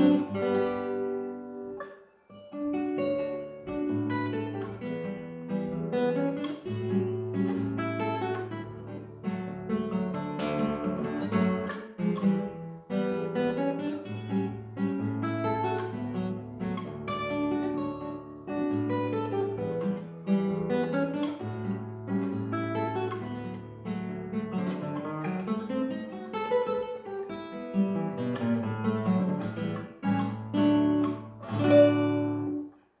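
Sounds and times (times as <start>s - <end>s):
acoustic guitar playing a waltz: 0.0s - 33.0s.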